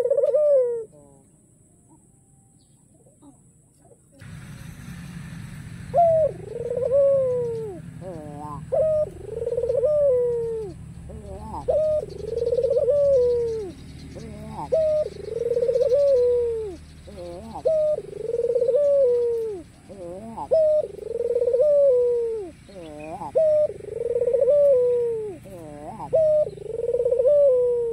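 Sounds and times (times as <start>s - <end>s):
dove cooing: 0.0s - 1.2s, 5.8s - 27.9s.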